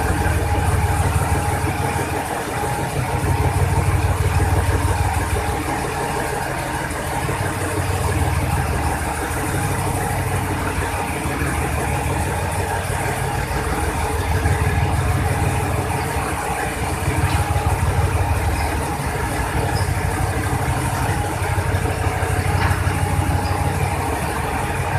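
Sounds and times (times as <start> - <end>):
diesel train engine idling: 0.0 - 24.9.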